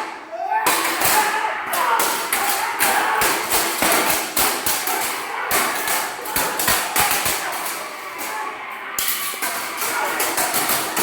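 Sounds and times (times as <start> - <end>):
weapons clashing: 0.0 - 11.0.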